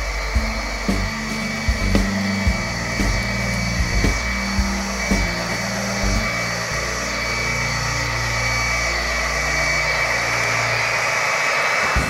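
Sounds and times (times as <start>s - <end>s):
high whine: 0.0s - 12.0s
model diesel engine sound: 0.0s - 12.0s.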